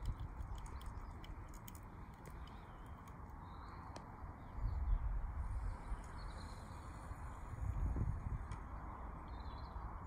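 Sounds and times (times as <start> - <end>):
wind buffeting microphone: 0.0 - 3.1, 4.4 - 10.0.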